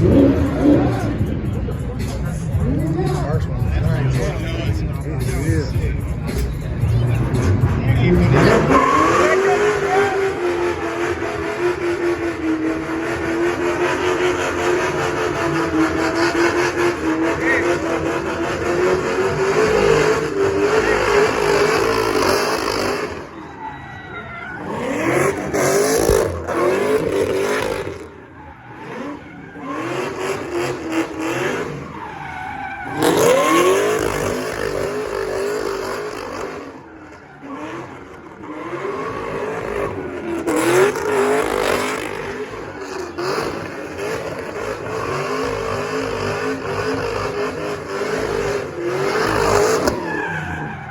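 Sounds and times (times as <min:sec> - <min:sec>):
car engine revving: 0:00.0 - 0:50.9
tyres squealing on pavement: 0:08.1 - 0:50.9.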